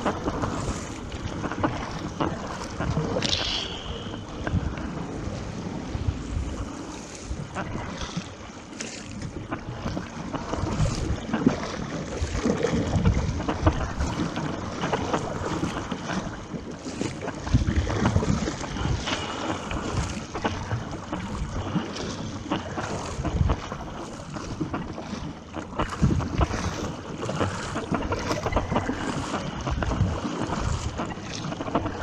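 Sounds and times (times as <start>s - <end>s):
wind noise on microphone: 0.0s - 8.4s, 9.0s - 32.0s
water splashing and rushing: 0.0s - 32.0s.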